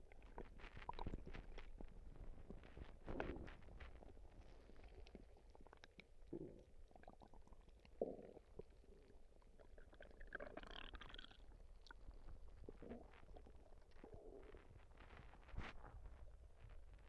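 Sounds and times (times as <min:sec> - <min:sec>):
stomach gurgling: 0:00.0 - 0:17.0.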